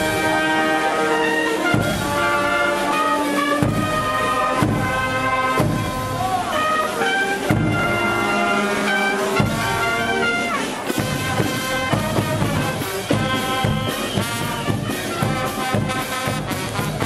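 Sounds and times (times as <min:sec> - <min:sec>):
drum and cymbal beat: 0:00.0 - 0:06.6, 0:09.3 - 0:17.0
brass band playing: 0:00.0 - 0:17.0.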